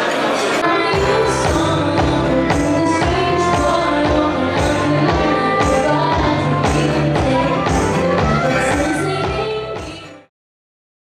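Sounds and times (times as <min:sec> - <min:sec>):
acoustic guitar: 0:00.6 - 0:10.3
electric bass: 0:00.6 - 0:10.3
saxophone: 0:00.6 - 0:10.3
woman singing: 0:00.6 - 0:10.3
steady drum beat: 0:01.0 - 0:10.0.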